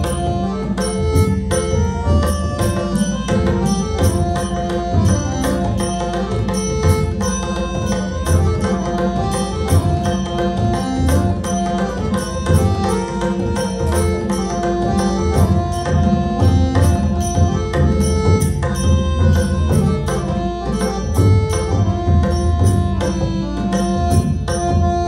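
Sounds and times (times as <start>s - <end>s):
hand cymbals clashing: 0.0s - 24.9s
harmonium melody: 0.0s - 25.0s
tabla strokes: 0.0s - 25.0s.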